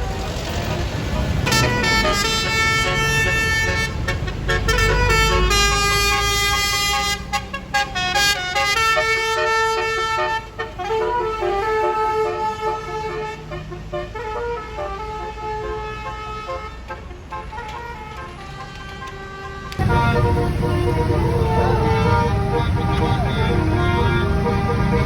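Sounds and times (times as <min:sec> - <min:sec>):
bus engine rumbling: 0:00.0 - 0:25.0
bus horn playing a melody: 0:00.4 - 0:25.0.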